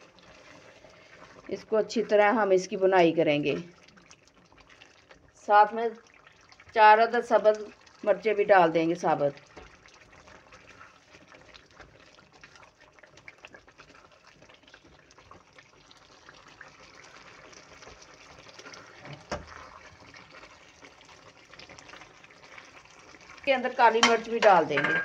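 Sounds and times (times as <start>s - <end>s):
chicken frying in oil: 0.0s - 25.0s.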